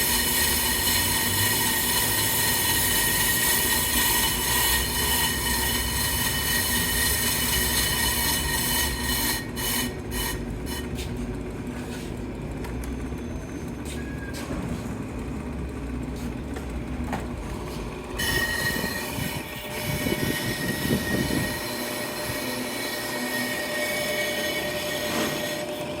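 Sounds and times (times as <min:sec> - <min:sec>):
high-pitched metallic squeal: 0:00.0 - 0:11.1, 0:12.9 - 0:14.8, 0:18.2 - 0:26.0
brake lathe humming: 0:00.0 - 0:26.0.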